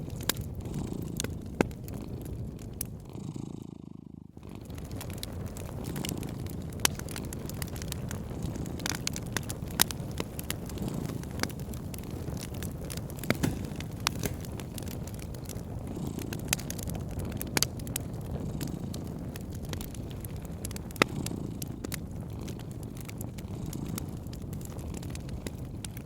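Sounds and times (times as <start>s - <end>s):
low fire rumble: 0.0s - 26.0s
wood fire crackling: 0.0s - 26.0s.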